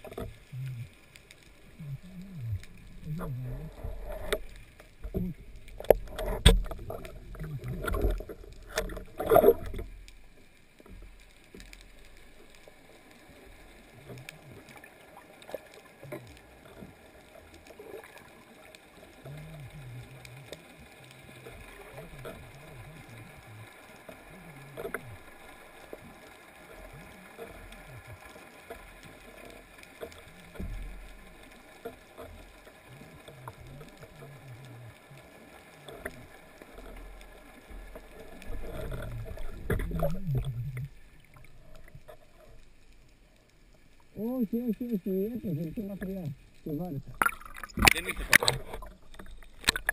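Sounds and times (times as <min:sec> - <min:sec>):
water sloshing and gurgling: 0:00.0 - 0:49.9.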